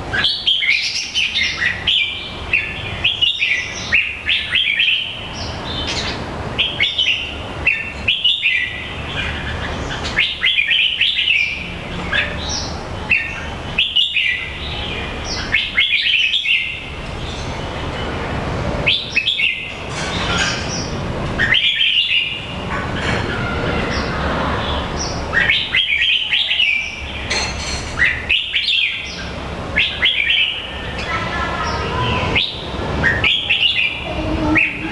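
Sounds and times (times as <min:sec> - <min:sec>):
bird chirping: 0:00.0 - 0:18.2, 0:18.8 - 0:34.9.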